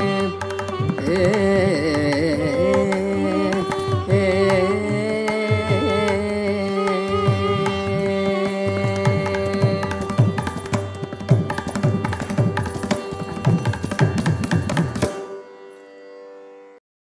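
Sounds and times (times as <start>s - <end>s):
tanpura drone: 0.0s - 16.8s.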